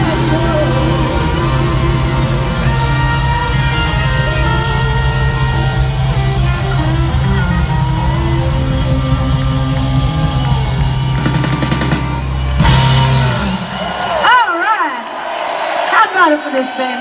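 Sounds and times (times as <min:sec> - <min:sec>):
cymbals: 0:00.0 - 0:14.2
held electric guitar notes: 0:00.0 - 0:14.2
blues-rock band playing: 0:00.0 - 0:14.4.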